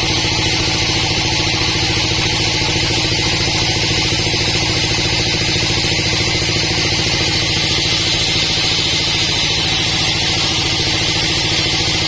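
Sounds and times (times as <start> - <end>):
engine running with hiss: 0.0 - 12.0.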